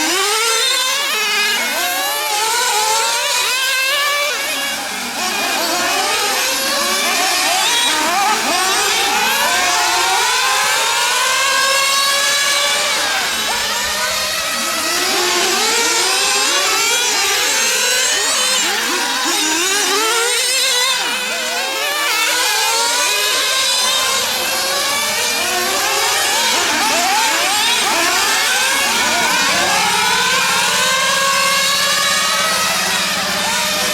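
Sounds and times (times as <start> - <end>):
rc car engines racing: 0.0 - 33.9.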